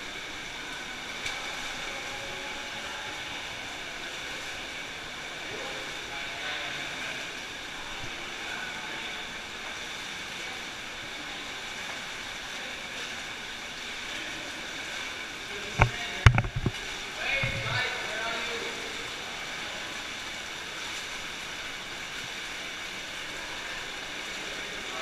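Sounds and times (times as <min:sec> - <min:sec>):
stream rushing: 0:00.0 - 0:25.0
water splashing from wading: 0:00.0 - 0:25.0.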